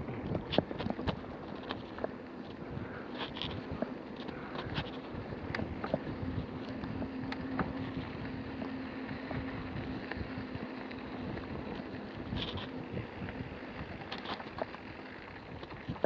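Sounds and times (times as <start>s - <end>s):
bike knocks and rattles: 0.0s - 10.6s, 11.3s - 16.0s
bike tyres crunching on grit: 0.0s - 16.0s
steady low hum: 0.0s - 16.0s
wind on microphone: 0.0s - 16.0s.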